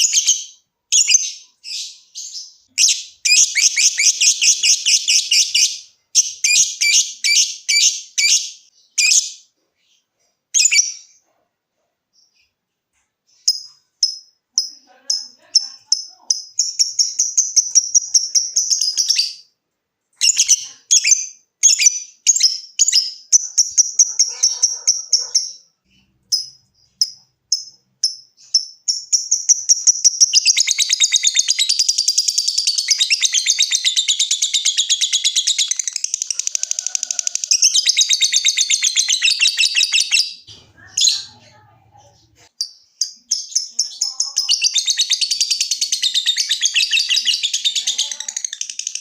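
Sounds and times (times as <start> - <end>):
lovebird chattering trill: 0.0 - 9.4, 13.4 - 19.5, 20.2 - 49.0
lovebird chirping: 0.0 - 49.0.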